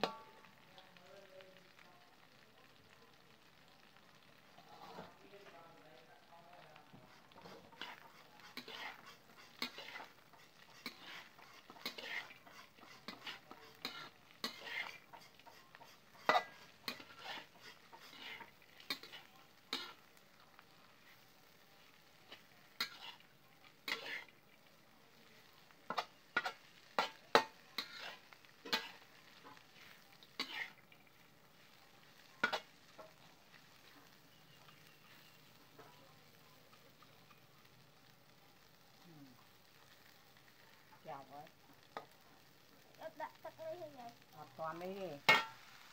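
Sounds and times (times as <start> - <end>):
faint frying sizzle: 0.0 - 45.9
metal spoon scraping a pan: 3.9 - 5.6, 6.8 - 24.6, 25.3 - 38.9, 39.7 - 45.9.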